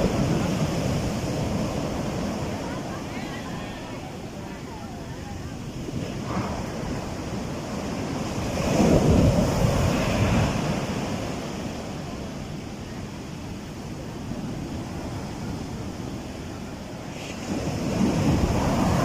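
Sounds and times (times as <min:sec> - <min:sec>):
waves breaking in surf: 0:00.0 - 0:19.0
wind buffeting microphone: 0:00.0 - 0:19.0.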